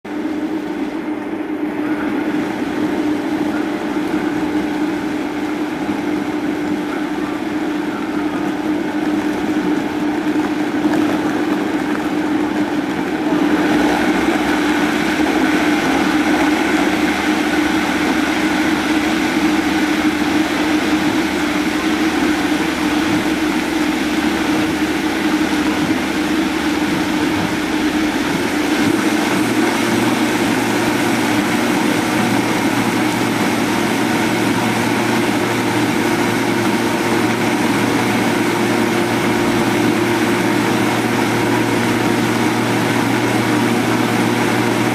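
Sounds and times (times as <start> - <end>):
blender motor running: 8.4 - 44.9.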